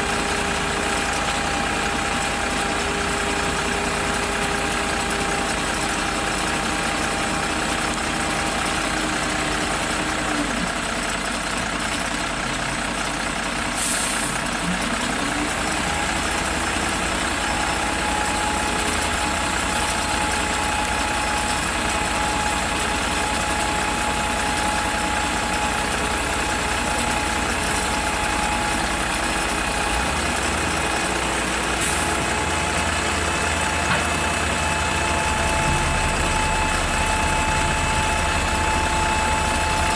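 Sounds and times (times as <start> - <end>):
conveyor unloading sand: 0.0 - 39.9
heavy truck engine running: 0.0 - 39.9.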